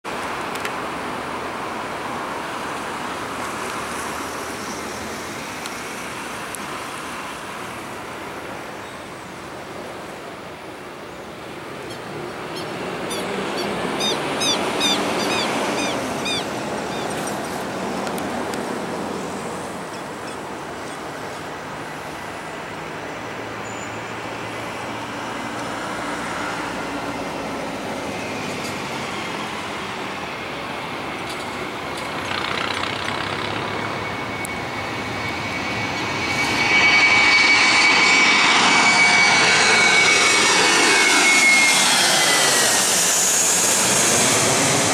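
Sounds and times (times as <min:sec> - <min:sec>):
jet airliner taking off: 0:00.2 - 0:44.9
high jet whine: 0:00.5 - 0:44.9.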